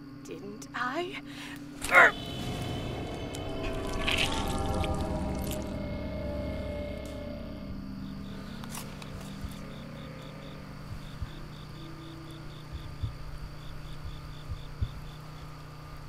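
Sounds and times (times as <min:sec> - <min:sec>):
crickets chirping: 0:00.0 - 0:16.0
steady low hum: 0:00.0 - 0:16.0
low thumps: 0:01.7 - 0:15.1.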